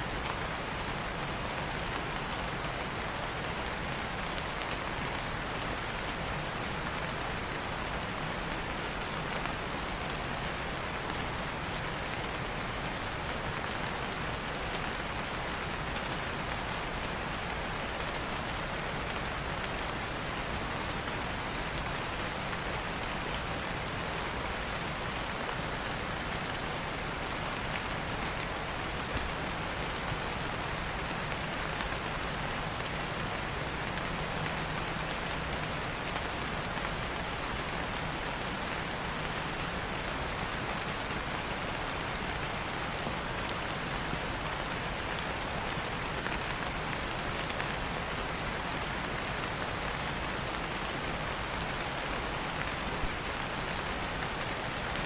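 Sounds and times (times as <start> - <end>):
louder raindrops: 0.0 - 55.0
steady rain hiss: 0.0 - 55.0.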